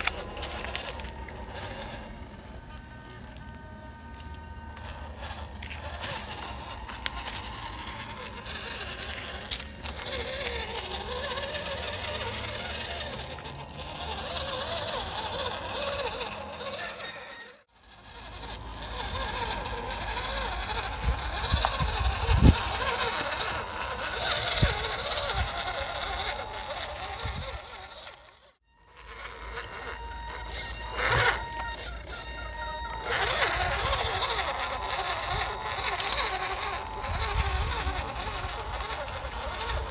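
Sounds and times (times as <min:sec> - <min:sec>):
electric toy car whirring: 0:00.0 - 0:39.9.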